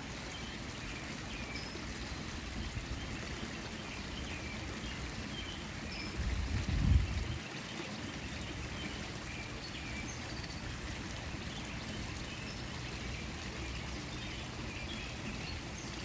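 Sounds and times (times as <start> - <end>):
outdoor hiss-like wash: 0.0 - 16.0.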